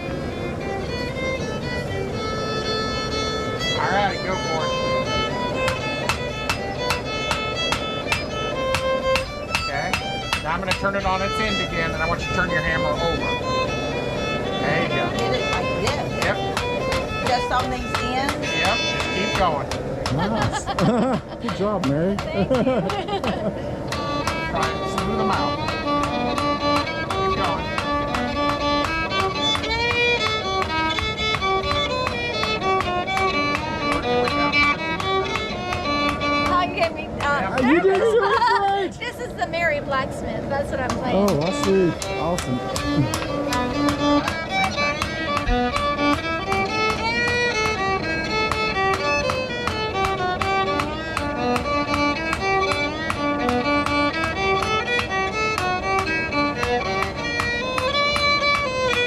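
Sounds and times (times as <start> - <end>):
fiddle playing a tune: 0.0 - 59.0.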